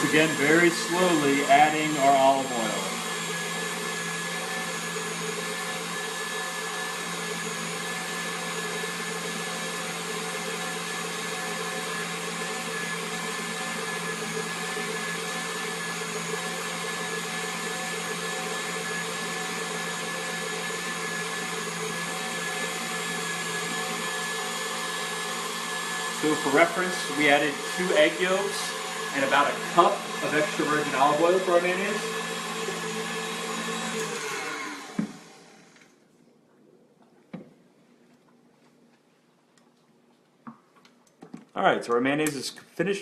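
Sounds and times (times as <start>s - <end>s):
electric mixer motor running: 0.0s - 36.0s.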